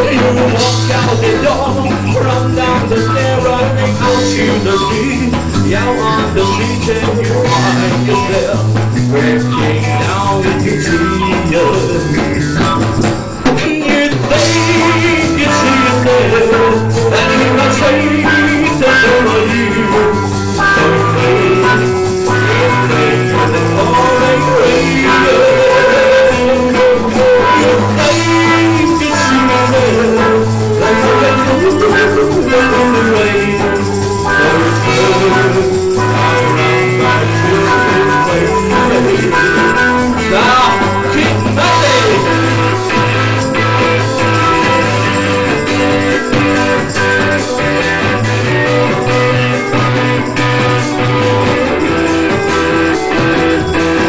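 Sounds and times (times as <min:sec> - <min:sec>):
bass line: 0:00.0 - 0:54.0
rock band playing live: 0:00.0 - 0:54.0.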